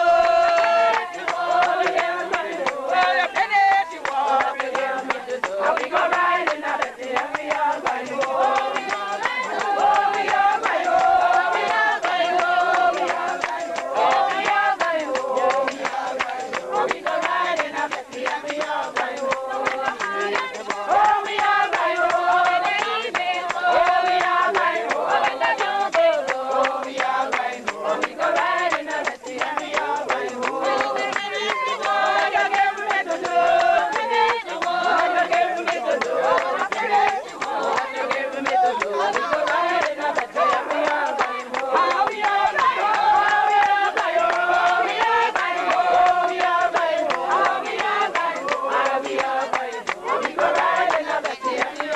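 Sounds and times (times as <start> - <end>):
congregation singing a hymn: 0.0 - 51.9
hand clapping: 0.0 - 51.9.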